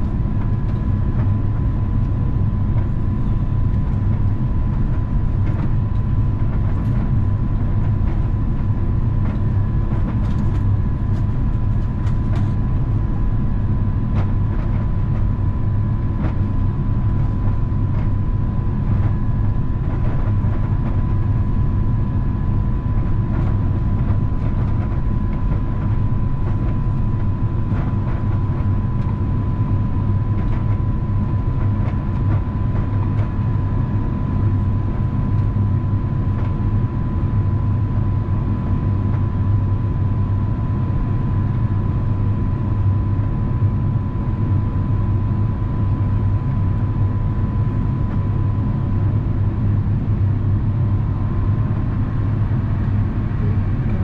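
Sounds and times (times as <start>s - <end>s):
airplane cabin engine rumble: 0.0s - 54.0s
thin steady whine: 0.0s - 54.0s.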